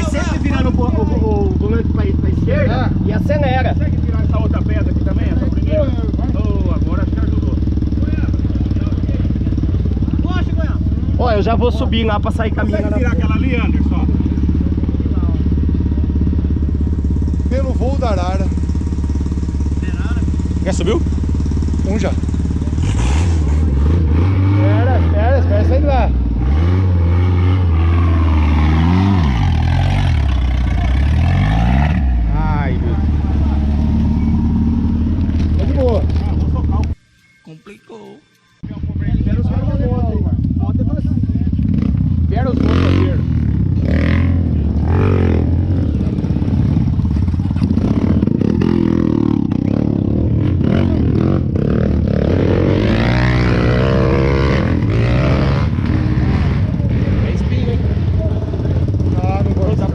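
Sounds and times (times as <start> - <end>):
vehicle engine revving: 0.0 - 37.0, 39.1 - 59.9.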